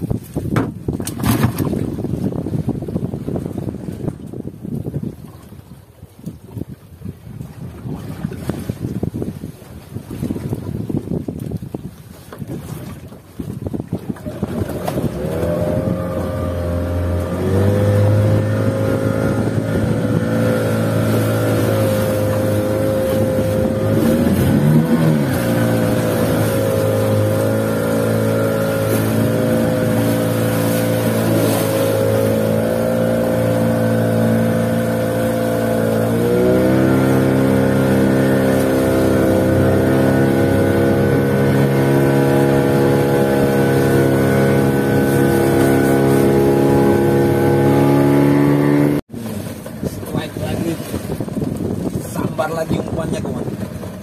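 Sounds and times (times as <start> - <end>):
boat motor running: 7.4 - 54.0.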